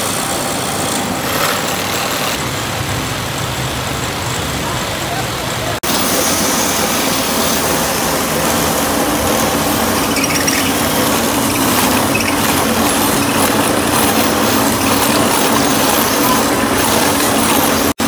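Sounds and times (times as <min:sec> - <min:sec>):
rotary cutter cutting wood: 0:00.0 - 0:02.4, 0:05.9 - 0:18.0
motor hum: 0:00.2 - 0:18.0.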